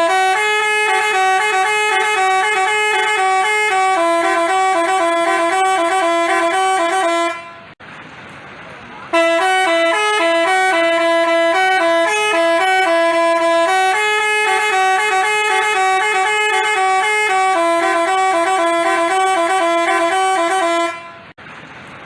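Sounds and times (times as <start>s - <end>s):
bus horn playing a tune: 0.0s - 7.8s, 9.1s - 21.4s.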